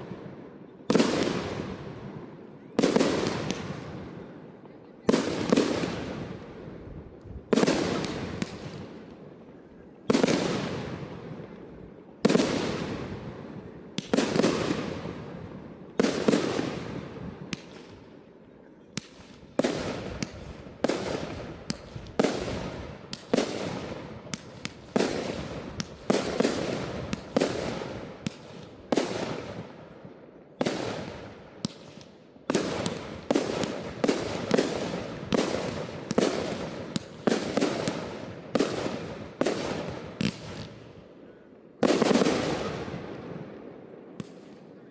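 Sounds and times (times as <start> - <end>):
fireworks bangs with rolling echo: 0.0 - 18.2, 19.0 - 41.1, 41.8 - 44.8.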